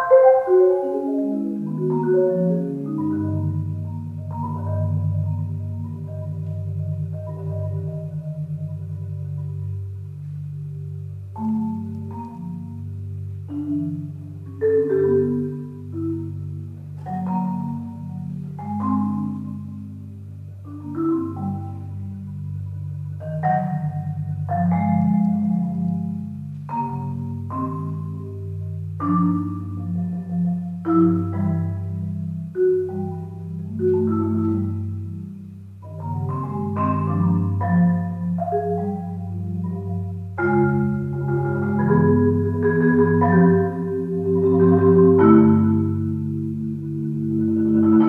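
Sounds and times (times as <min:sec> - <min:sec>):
marimba played with mallets: 0:00.0 - 0:48.0.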